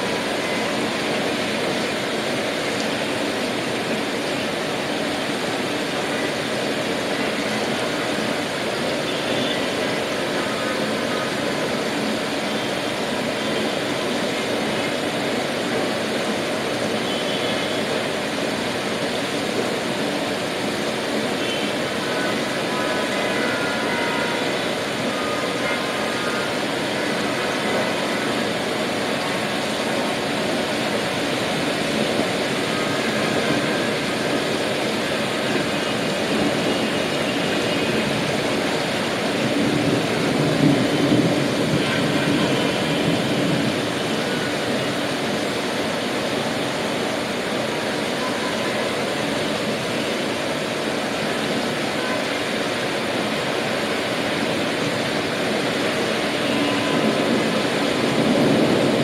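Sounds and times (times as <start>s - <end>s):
city traffic noise: 0.0s - 59.0s
rain hiss: 0.0s - 59.0s.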